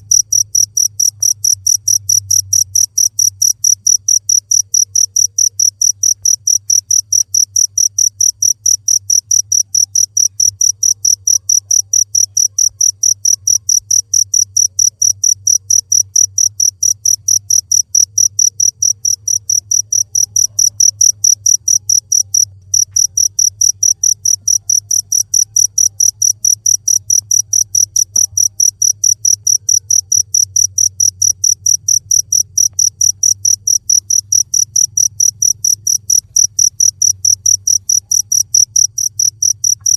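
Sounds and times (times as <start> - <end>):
cricket chirping: 0.0 - 39.9
faint low hum: 0.0 - 39.9.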